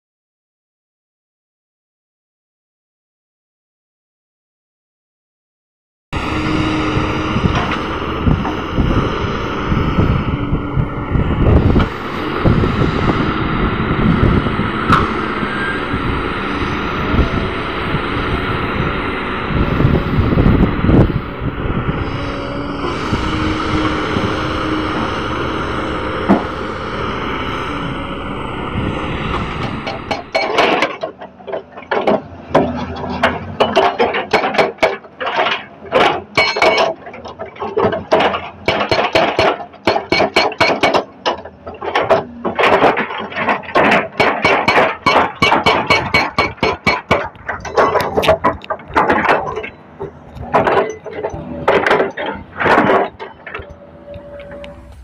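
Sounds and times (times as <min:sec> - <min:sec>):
excavator diesel engine running: 0:06.2 - 0:55.0
hydraulic rock breaker hammering: 0:06.4 - 0:54.7.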